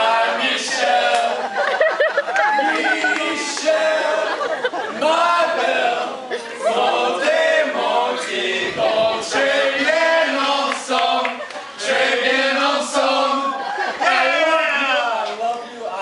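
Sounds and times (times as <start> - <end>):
men singing a cappella: 0.0 - 15.3.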